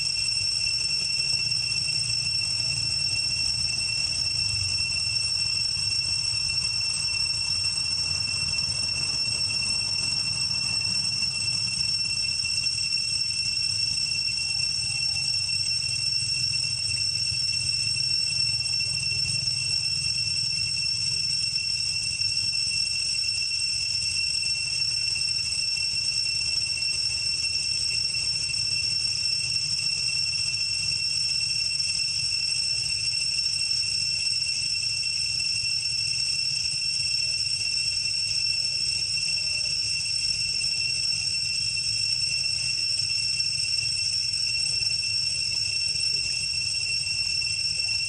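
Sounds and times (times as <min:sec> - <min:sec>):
cicadas droning: 0:00.0 - 0:48.0.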